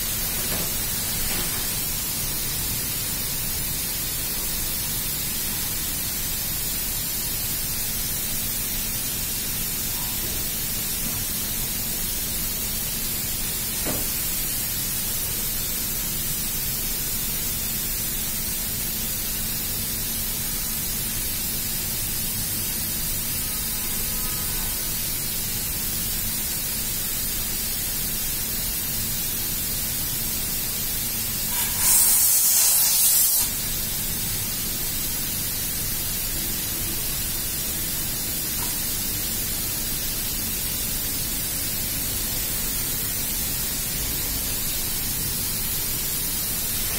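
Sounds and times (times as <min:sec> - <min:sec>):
compressed air hissing: 0:00.0 - 0:28.7, 0:30.6 - 0:46.9
mechanical hum: 0:00.0 - 0:46.9.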